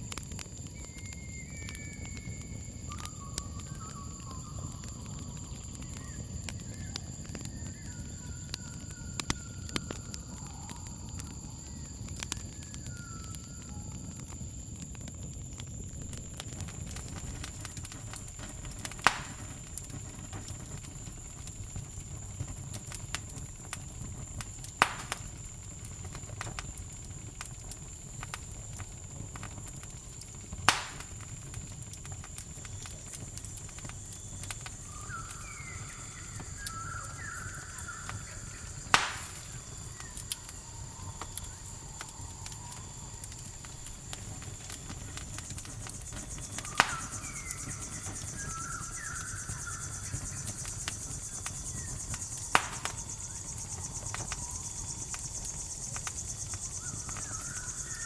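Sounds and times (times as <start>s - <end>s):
campfire crackling and popping: 0.0s - 58.0s
crickets chirring: 0.0s - 58.0s.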